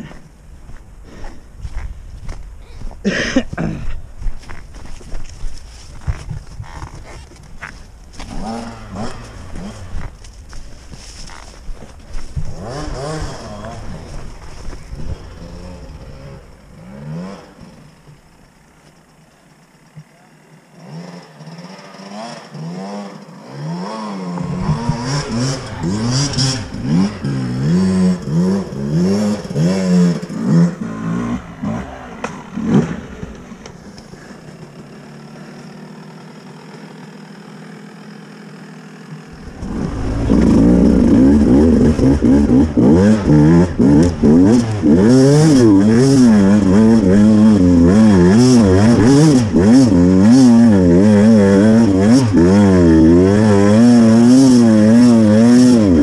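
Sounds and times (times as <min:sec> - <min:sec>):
motorcycle engine revving: 0:06.0 - 0:56.0.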